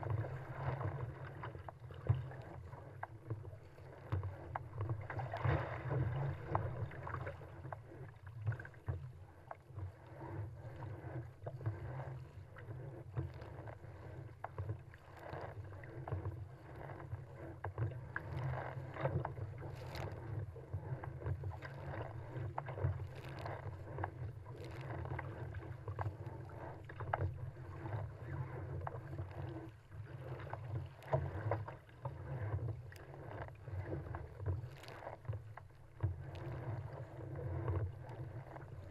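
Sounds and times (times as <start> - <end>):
water splashing against hull: 0.0 - 38.9.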